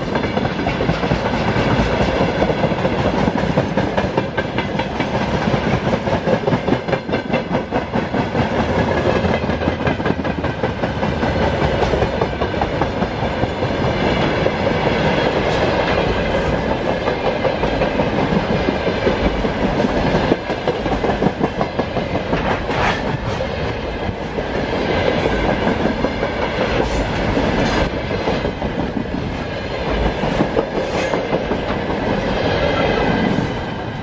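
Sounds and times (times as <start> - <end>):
freight train rolling past: 0.0 - 34.0
wheels clacking over rail joints: 0.0 - 34.0.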